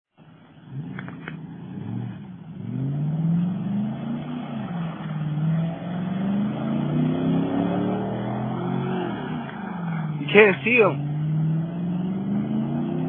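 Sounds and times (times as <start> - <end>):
tires spinning on dirt: 0.2 - 13.0
pickup engine revving hard: 0.7 - 13.0.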